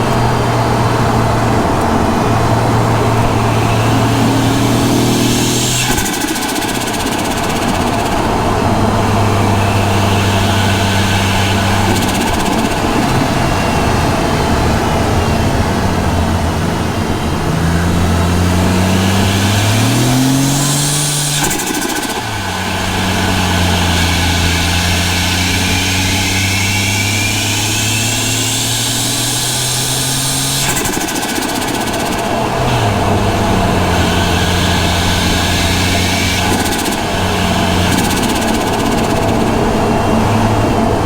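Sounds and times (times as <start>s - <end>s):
car engine pulling under boost: 0.0s - 41.0s
whistling turbo spool: 0.0s - 41.0s
turbo flutter: 2.6s - 14.2s, 18.2s - 40.6s.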